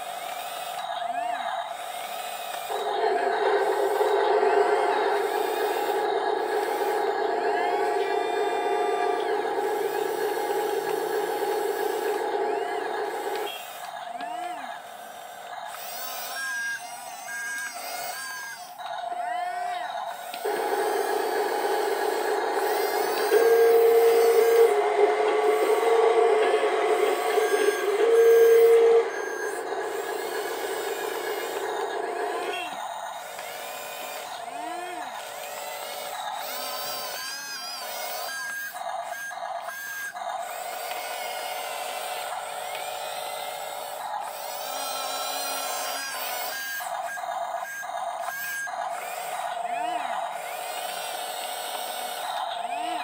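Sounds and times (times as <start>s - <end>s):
toy electric motors whining: 0.0s - 53.0s.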